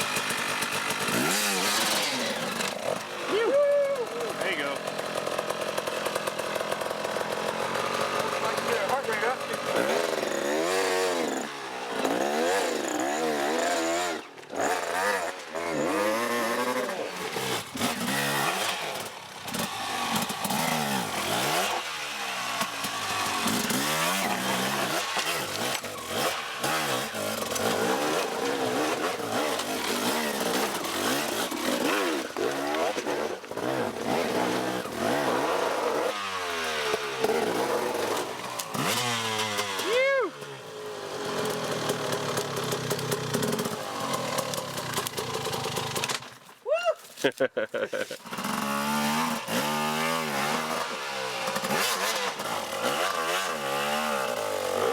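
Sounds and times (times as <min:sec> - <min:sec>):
motorcycle engines revving: 0:00.0 - 0:46.2, 0:47.9 - 0:54.9.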